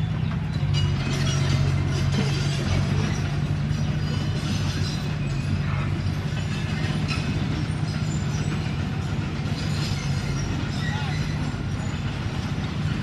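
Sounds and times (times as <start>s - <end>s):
bulldozer diesel engine: 0.0s - 13.0s.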